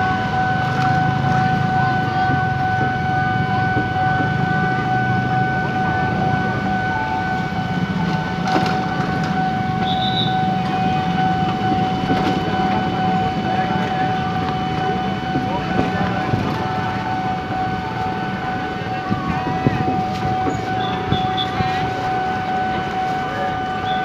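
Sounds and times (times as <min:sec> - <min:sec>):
railroad crossing alarm tone: 0:00.0 - 0:24.0.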